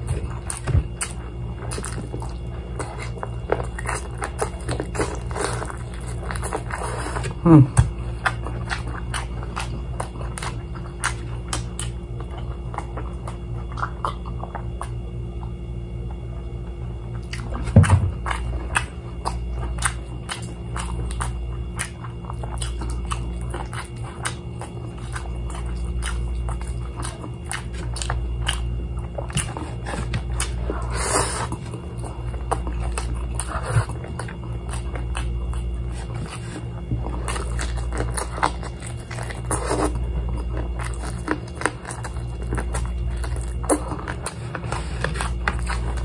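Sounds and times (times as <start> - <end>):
chewing crispy fried chicken: 0.0 - 46.0
low hum: 0.0 - 46.0.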